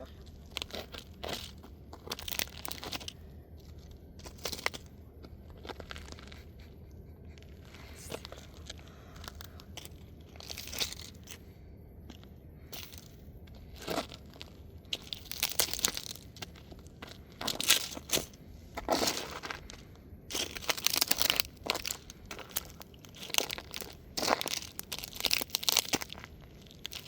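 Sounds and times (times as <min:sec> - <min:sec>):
plastic toy crunching under a shoe: 0:00.0 - 0:06.6, 0:07.4 - 0:11.4, 0:12.8 - 0:27.0.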